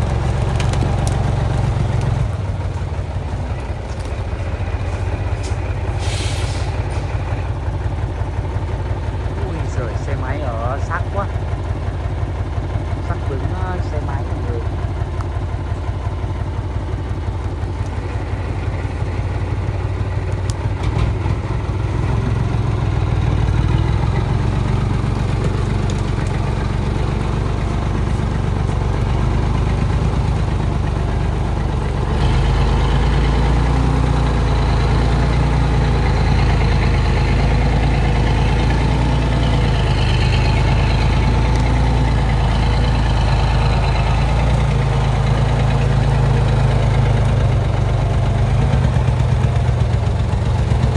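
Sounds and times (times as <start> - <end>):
truck diesel engine running: 0.0 - 50.9.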